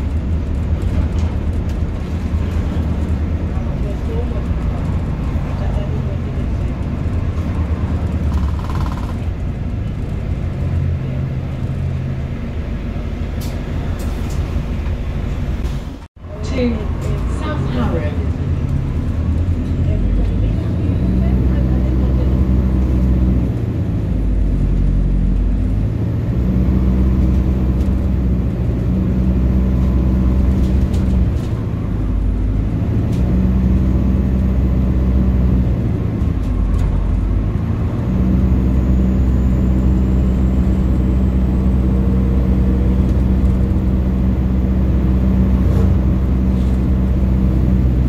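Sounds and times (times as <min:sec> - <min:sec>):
bus drivetrain drone: 0:00.0 - 0:48.0
road rumble: 0:00.0 - 0:48.0.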